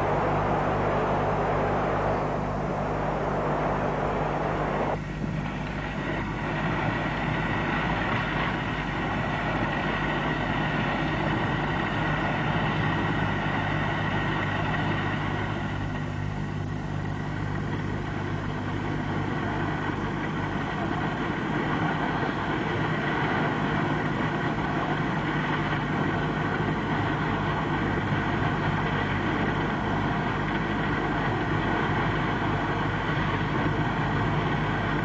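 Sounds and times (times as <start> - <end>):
pumping machinery humming: 0.0 - 35.0.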